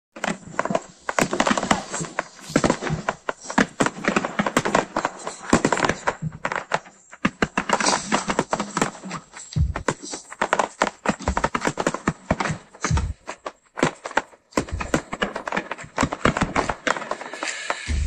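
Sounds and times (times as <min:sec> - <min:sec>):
fireworks bangs and crackles: 0:00.1 - 0:18.0.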